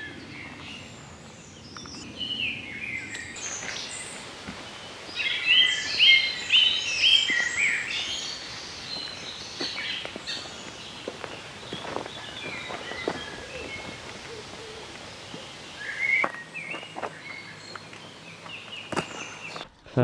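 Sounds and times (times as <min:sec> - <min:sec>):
songbirds singing: 0:00.0 - 0:19.8.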